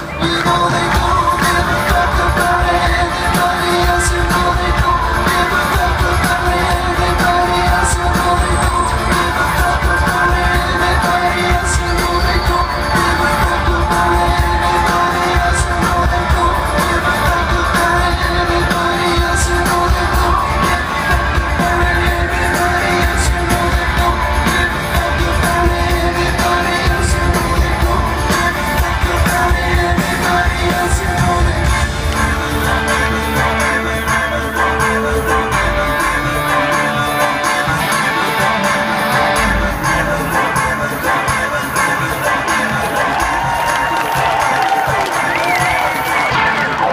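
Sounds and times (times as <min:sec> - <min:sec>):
crowd singing and shouting: 0:00.0 - 0:46.9
live rock band playing loudly: 0:00.0 - 0:46.9.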